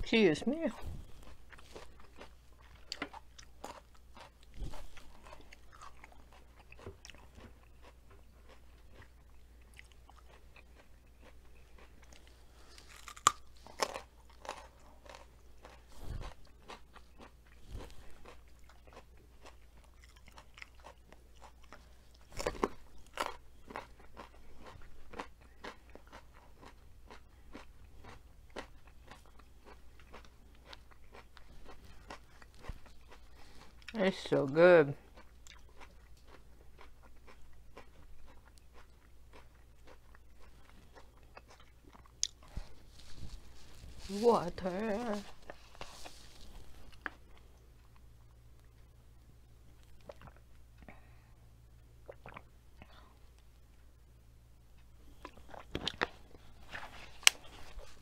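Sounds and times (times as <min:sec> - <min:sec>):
person chewing crunchy food: 0:00.8 - 0:48.9, 0:49.7 - 0:51.1, 0:52.0 - 0:53.5, 0:54.7 - 0:58.0.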